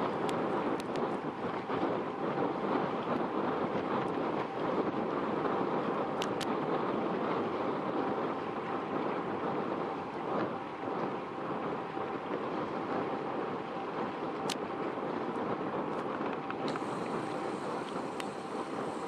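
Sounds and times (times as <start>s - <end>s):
faint steady tone: 0.0s - 19.0s
machinery hum: 0.0s - 19.0s
ship wash on water: 0.0s - 19.0s
wind on microphone: 0.0s - 19.0s.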